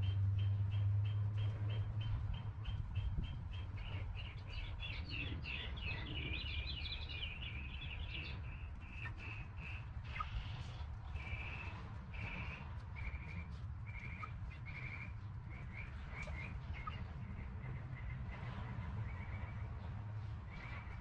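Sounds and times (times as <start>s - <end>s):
low steady rumble: 0.0s - 21.0s
small birds chirping: 0.0s - 21.0s.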